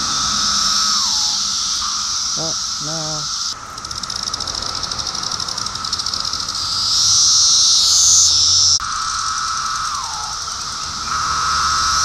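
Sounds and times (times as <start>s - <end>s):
cicadas buzzing in chorus: 0.0s - 12.0s.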